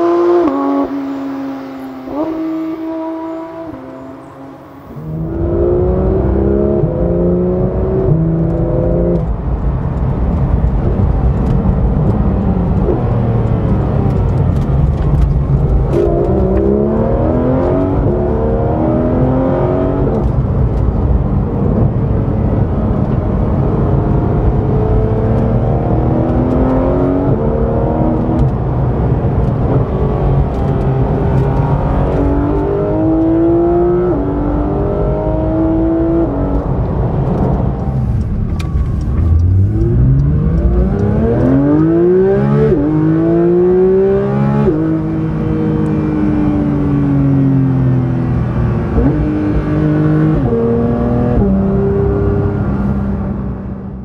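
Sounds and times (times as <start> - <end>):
sports car engine accelerating: 0.0 - 54.0.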